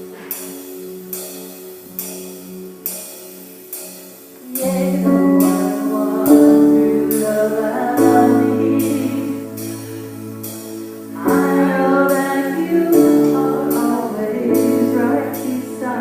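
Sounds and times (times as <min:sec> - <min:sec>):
sustained chord: 0:00.0 - 0:16.0.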